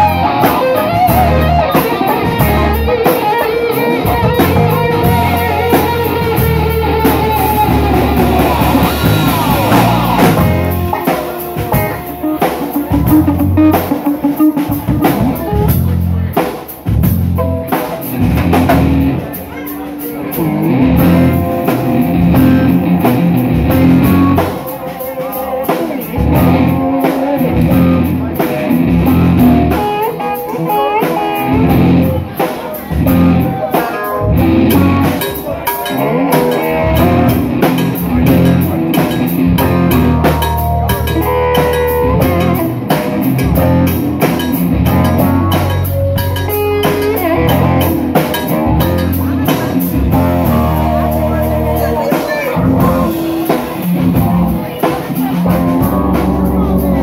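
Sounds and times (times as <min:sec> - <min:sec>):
drum kit: 0:00.0 - 0:57.0
electric guitar: 0:00.0 - 0:57.0.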